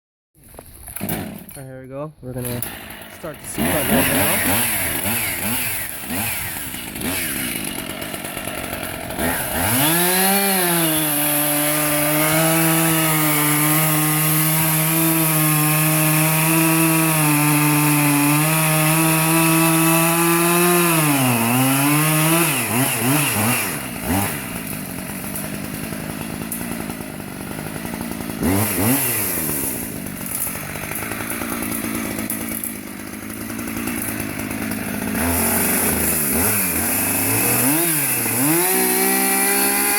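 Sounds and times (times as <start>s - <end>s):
chainsaw cutting tree trunk: 0.5s - 1.6s, 2.4s - 39.9s.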